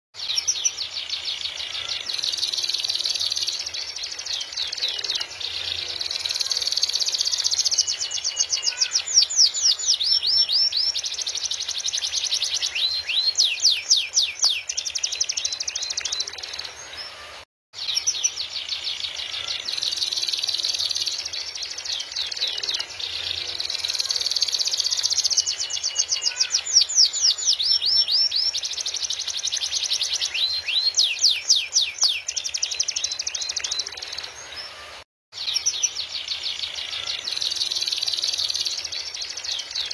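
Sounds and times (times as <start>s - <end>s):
canary singing trills: 0.2s - 39.9s.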